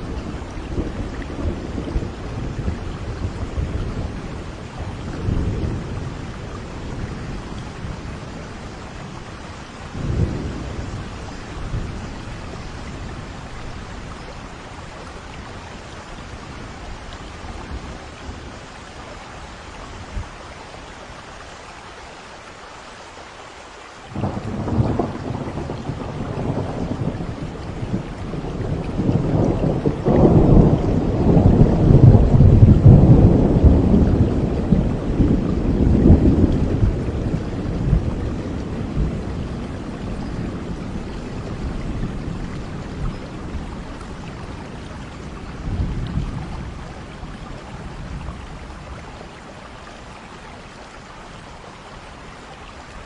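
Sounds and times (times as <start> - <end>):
thunder rumbling: 0.0 - 18.6, 24.1 - 49.7
steady rain falling: 0.0 - 53.0.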